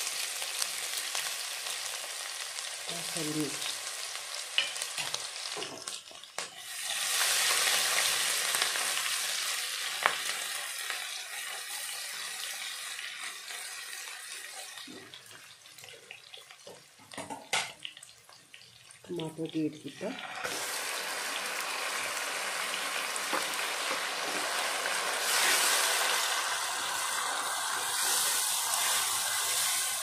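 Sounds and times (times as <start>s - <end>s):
spices sizzling in hot oil: 0.0s - 30.0s.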